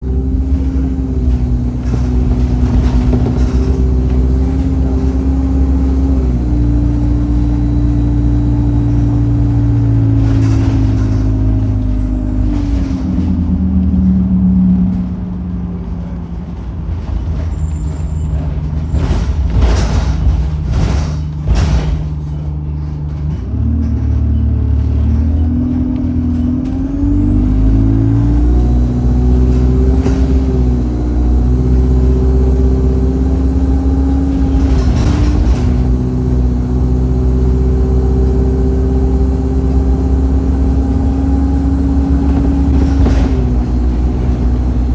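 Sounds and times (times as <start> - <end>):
bus diesel engine: 0.0 - 44.9.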